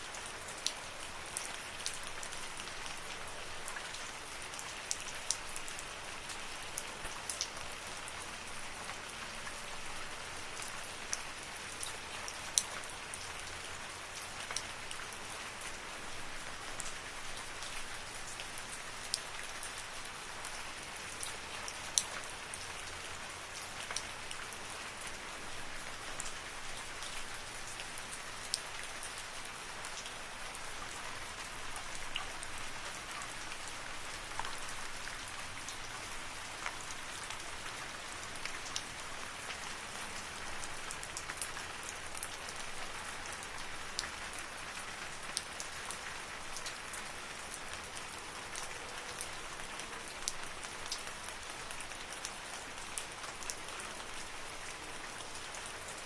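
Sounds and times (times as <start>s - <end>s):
rain falling in forest: 0.0s - 56.0s.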